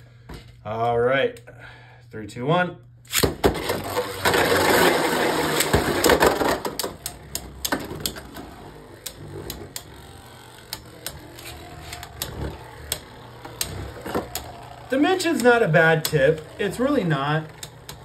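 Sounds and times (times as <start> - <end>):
spinning top launcher click: 3.1 - 18.0
spinning tops clashing: 3.5 - 18.0.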